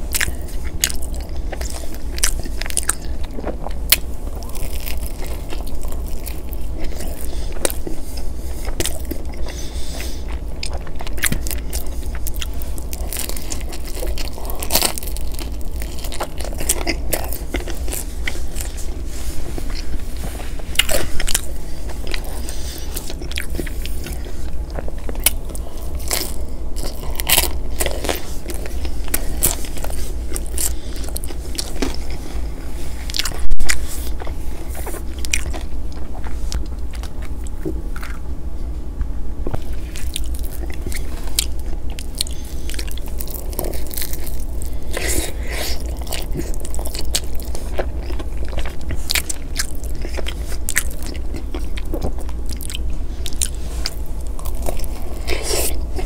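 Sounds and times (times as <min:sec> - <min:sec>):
chewing and biting pizza: 0:00.0 - 0:56.0
crust crunching: 0:00.0 - 0:56.0
steady low hum: 0:00.0 - 0:56.0.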